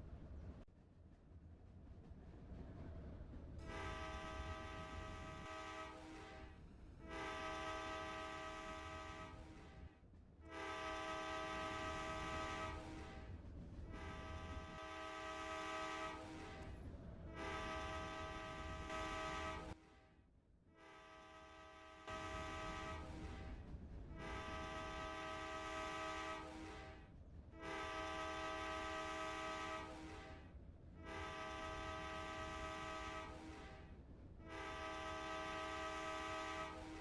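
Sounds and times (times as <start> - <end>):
train horn blasts: 3.6 - 37.0.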